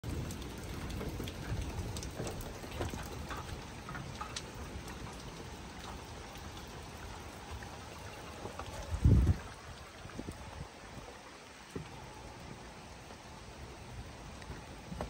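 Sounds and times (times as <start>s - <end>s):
raindrops tapping surfaces: 0.0s - 15.0s
steady rain falling: 0.0s - 15.0s.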